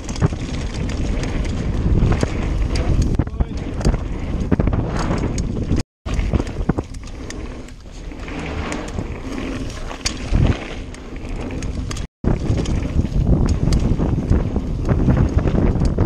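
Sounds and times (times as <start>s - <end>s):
bike rattling over bumps: 0.0s - 16.0s
tyres on dirt: 0.0s - 16.0s
wind rushing over microphone: 0.0s - 16.0s.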